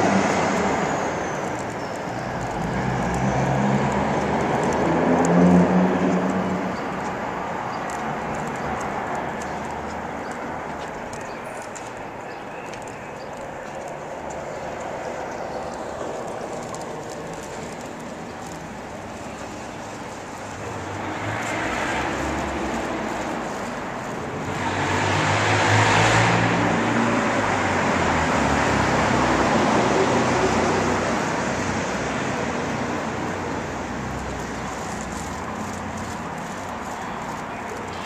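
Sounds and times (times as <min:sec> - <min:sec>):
vehicle passing: 0:00.0 - 0:12.1, 0:13.6 - 0:38.0
road traffic noise: 0:00.0 - 0:38.0.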